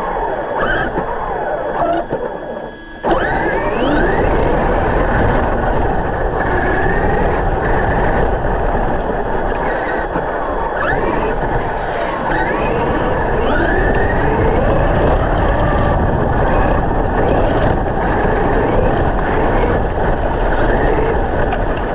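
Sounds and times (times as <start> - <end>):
electric motor whine: 0.0 - 21.9
tyres rushing rumble: 3.2 - 21.9.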